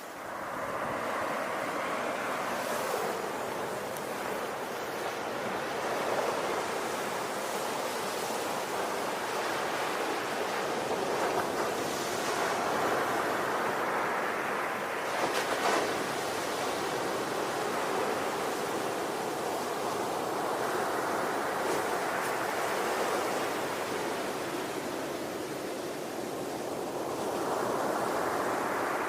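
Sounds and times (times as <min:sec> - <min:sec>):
ocean waves rushing: 0:00.0 - 0:29.0.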